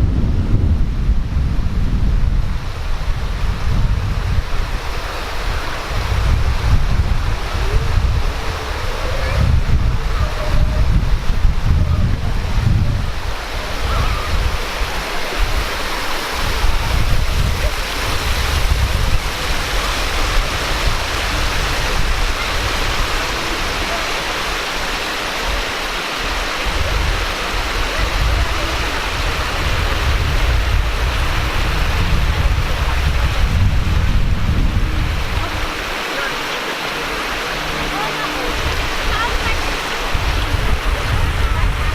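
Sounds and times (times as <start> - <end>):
stream rushing over rocks: 0.0 - 41.9
wind buffeting microphone: 0.0 - 41.9.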